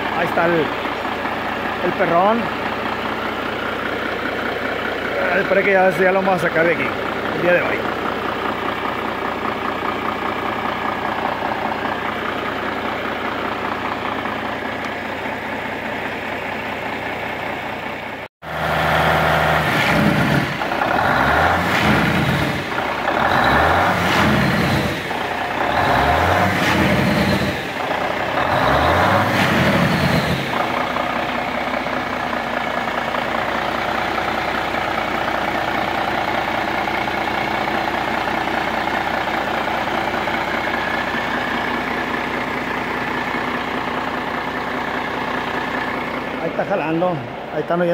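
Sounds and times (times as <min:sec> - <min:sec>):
diesel engine idling and revving: 0:00.0 - 0:47.9.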